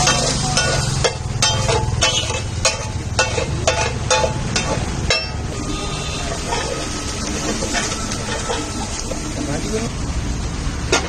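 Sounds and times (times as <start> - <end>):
metal spatula scraping iron griddle: 0.0 - 9.8.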